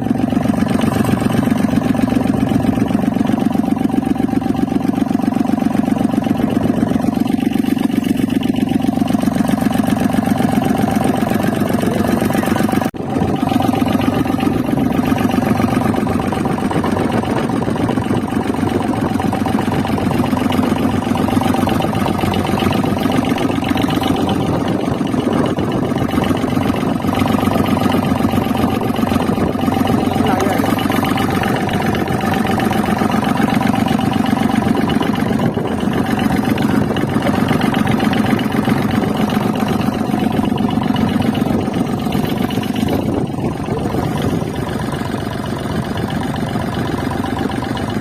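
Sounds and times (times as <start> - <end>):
engine running steadily: 0.0 - 48.0.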